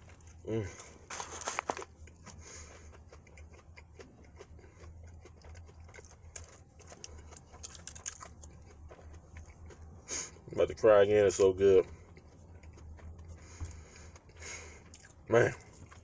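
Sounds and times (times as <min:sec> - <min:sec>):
person chewing: 0:00.0 - 0:10.8, 0:11.4 - 0:16.0
low steady hum: 0:00.0 - 0:16.0.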